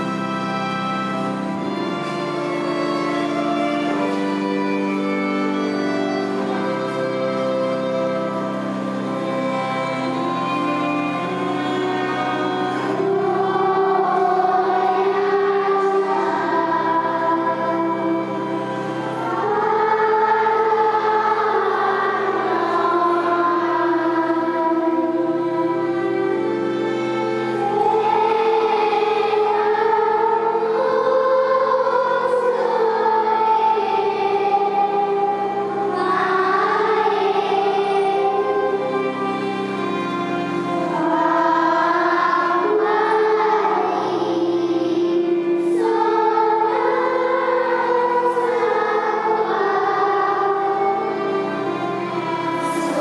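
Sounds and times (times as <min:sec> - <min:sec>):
choir singing a slow hymn: 0:00.0 - 0:53.0
low sustained accompaniment: 0:00.0 - 0:53.0.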